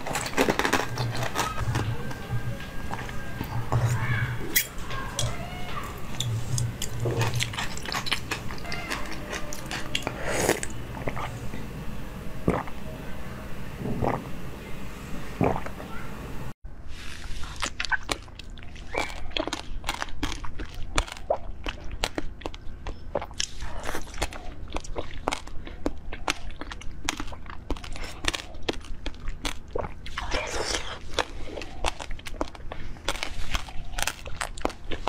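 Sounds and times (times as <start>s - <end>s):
crunchy chewing clicks: 0.0s - 11.6s, 17.4s - 35.0s.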